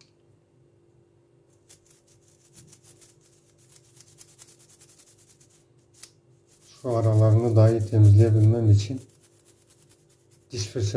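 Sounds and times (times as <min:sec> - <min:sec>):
toothbrush scrubbing plastic: 0:01.6 - 0:10.9.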